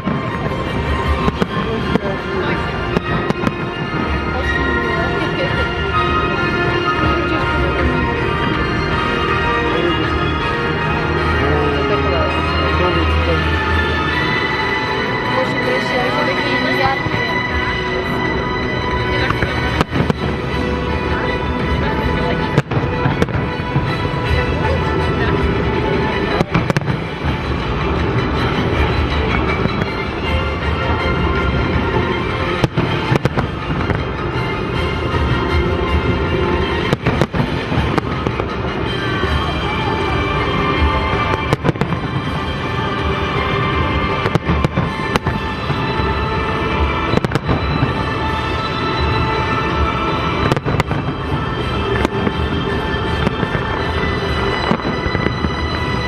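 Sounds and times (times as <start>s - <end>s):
fireworks bursts and crackle: 0.0s - 56.0s
music: 0.0s - 56.0s.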